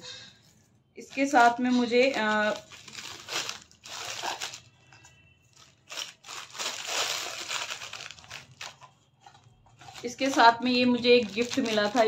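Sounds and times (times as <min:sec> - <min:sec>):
plastic packet crinkling: 0:01.0 - 0:12.0.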